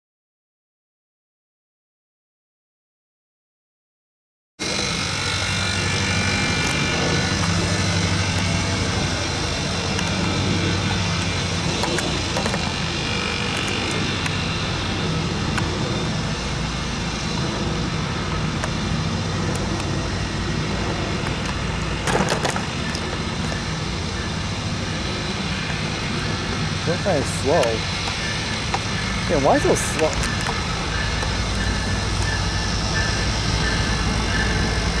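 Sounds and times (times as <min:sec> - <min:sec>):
diesel locomotive engine drone: 0:04.6 - 0:35.0.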